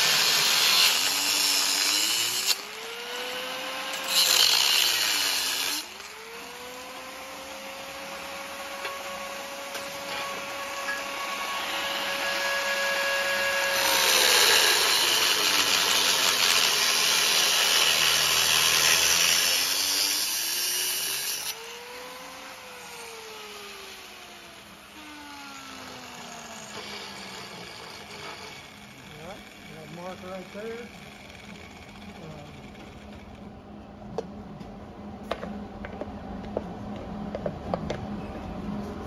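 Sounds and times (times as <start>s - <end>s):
grinder cutting steel: 0.0s - 33.4s
angle grinder motor whine: 0.0s - 33.6s.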